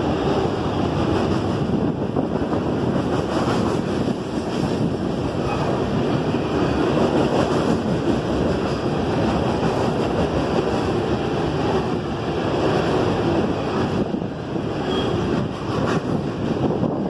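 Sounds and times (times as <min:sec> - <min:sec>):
freight train rumbling past: 0:00.0 - 0:17.0
wind buffeting microphone: 0:00.0 - 0:17.0.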